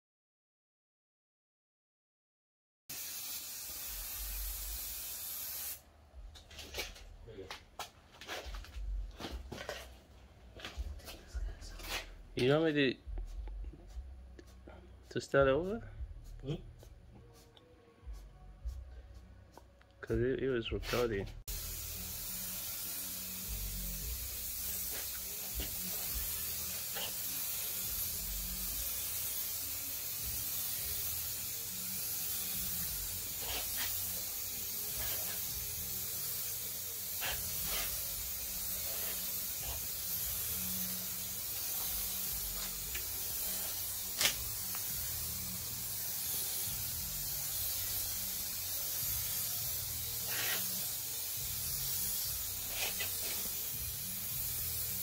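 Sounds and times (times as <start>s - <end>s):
spray can hissing: 2.9s - 10.0s, 10.6s - 15.2s, 20.8s - 55.0s.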